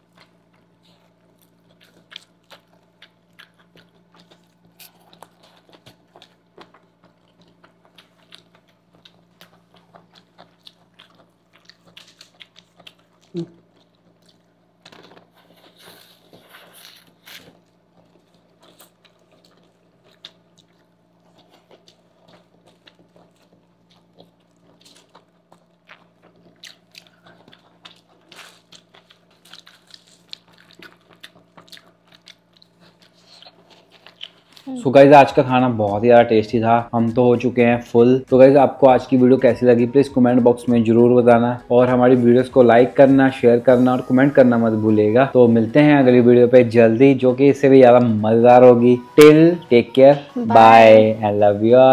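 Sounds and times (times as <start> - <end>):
faint steady hum: 0.0 - 51.9
people chewing noodles: 0.0 - 51.9.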